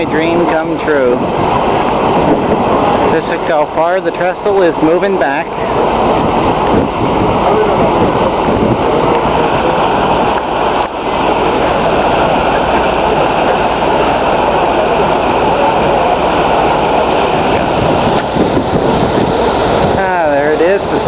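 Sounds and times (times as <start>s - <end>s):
water rushing: 0.0s - 21.0s
wind rushing: 0.0s - 21.0s.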